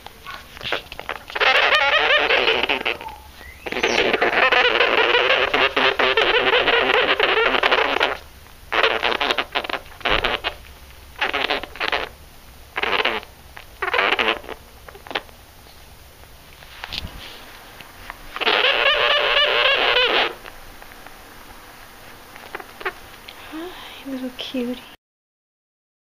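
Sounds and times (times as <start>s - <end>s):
sugar glider rasping buzz: 0.3s - 15.4s, 16.9s - 23.8s.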